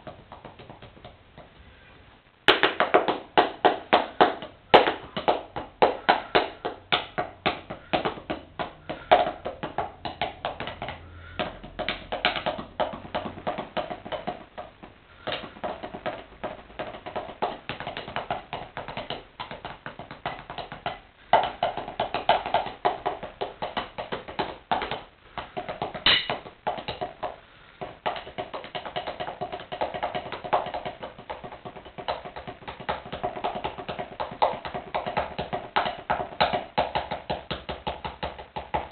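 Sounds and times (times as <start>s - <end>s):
drumsticks tapping on shoes: 0.0s - 1.8s, 2.5s - 38.9s.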